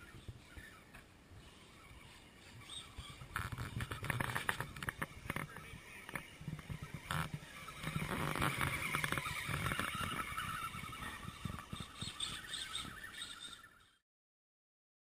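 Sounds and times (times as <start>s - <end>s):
rc car electric motor whining: 1.4s - 13.6s.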